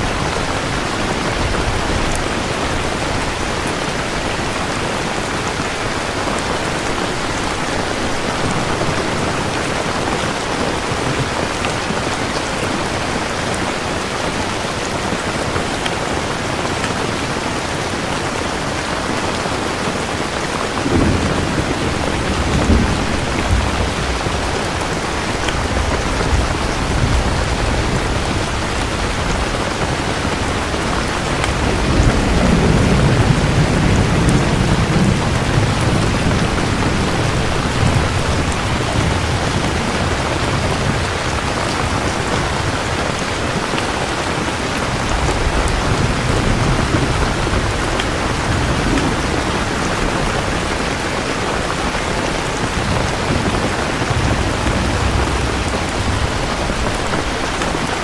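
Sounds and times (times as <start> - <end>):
heavy rain: 0.0 - 58.0
thunder rumbling: 0.0 - 58.0.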